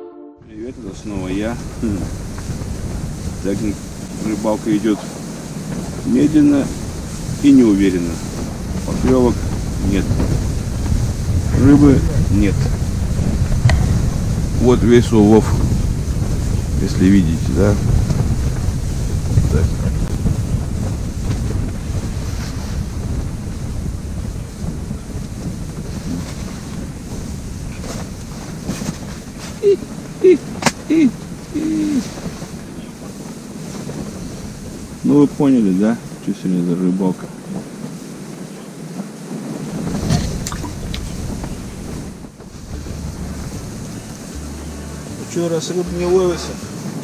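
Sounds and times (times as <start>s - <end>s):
wind buffeting microphone: 0.4s - 47.0s.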